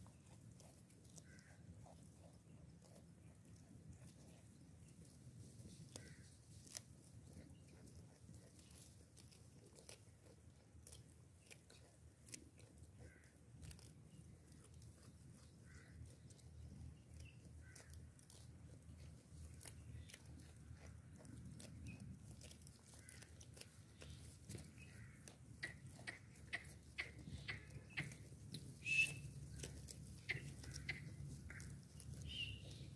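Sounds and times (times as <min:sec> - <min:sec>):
goats chewing grass: 0:00.0 - 0:32.9.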